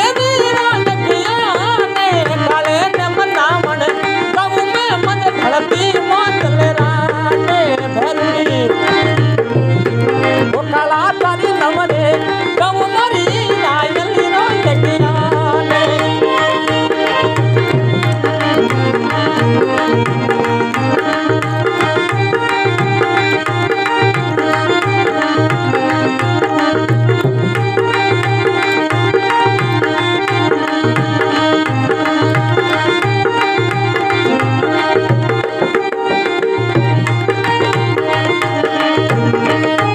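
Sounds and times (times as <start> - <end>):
folk melody line: 0.0 - 39.9.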